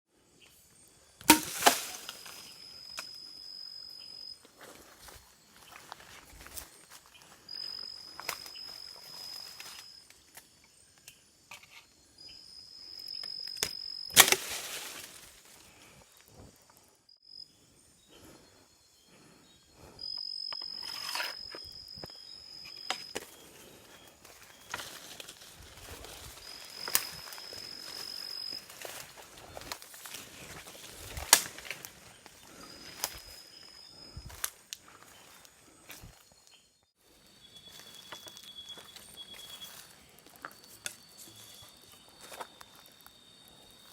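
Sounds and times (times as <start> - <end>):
high insect trill: 0.2 - 43.9.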